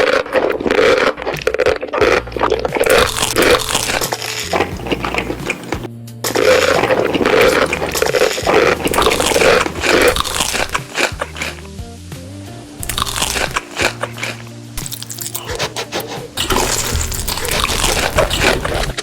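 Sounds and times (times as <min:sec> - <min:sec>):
background music with bass line: 0:00.0 - 0:19.0
crunching and chewing crisp food: 0:00.0 - 0:19.0.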